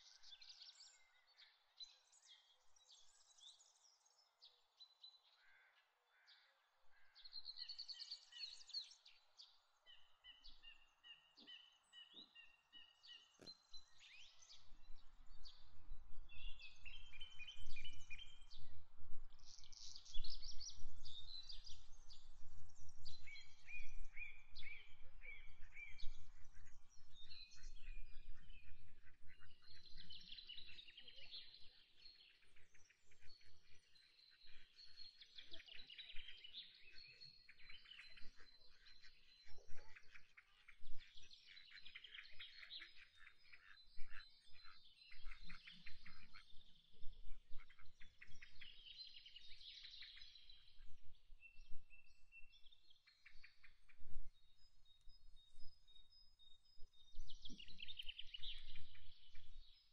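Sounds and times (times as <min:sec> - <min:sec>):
small birds chirping: 0:00.0 - 0:18.7, 0:19.3 - 0:59.9.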